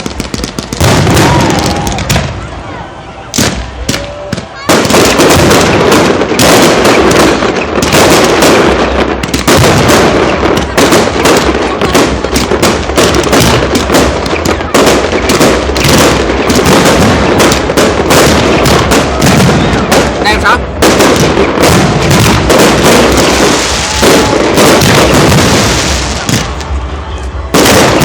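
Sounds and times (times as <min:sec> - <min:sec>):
fireworks bursts and crackling: 0:00.0 - 0:28.0.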